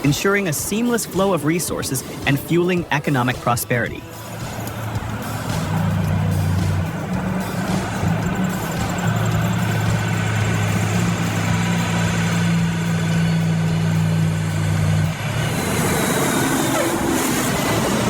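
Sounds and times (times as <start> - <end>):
heavy truck engine running: 0.0 - 18.0.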